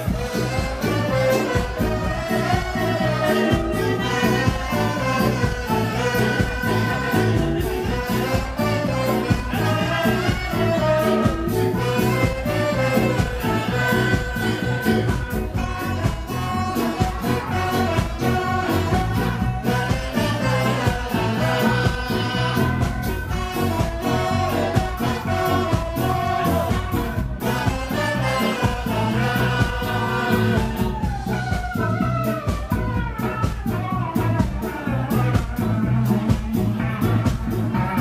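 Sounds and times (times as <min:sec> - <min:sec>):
live ska band playing: 0:00.0 - 0:38.0
person singing: 0:00.0 - 0:38.0
saxophones: 0:00.0 - 0:38.0.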